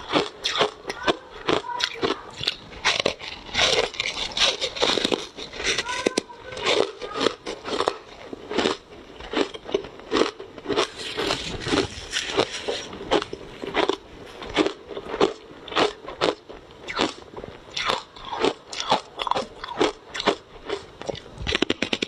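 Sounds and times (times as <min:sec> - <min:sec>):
ice being chewed: 0:00.0 - 0:22.0.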